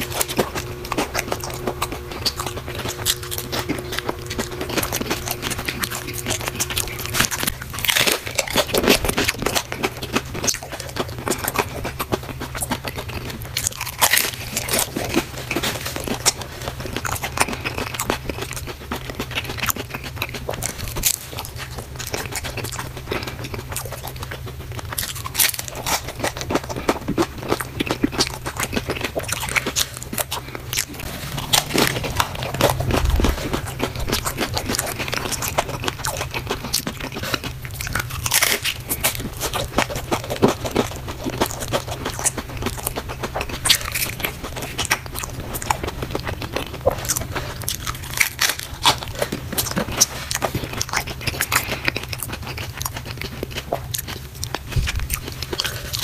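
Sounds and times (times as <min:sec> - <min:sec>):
crunching taco shells: 0:00.0 - 0:56.0
low steady hum: 0:00.0 - 0:56.0.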